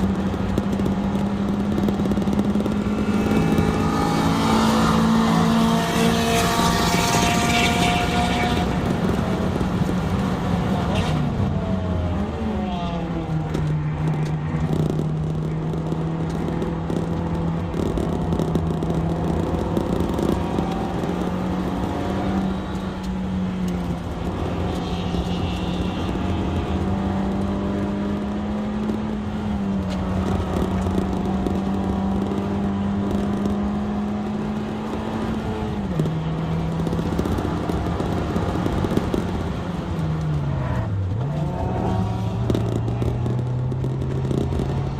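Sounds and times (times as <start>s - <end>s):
car engine at high revs: 0.0s - 44.9s
road and wind noise: 0.0s - 44.9s.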